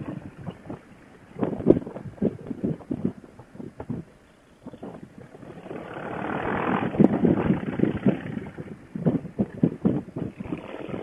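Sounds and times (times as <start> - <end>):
wind buffeting helmet microphone: 0.0 - 11.0.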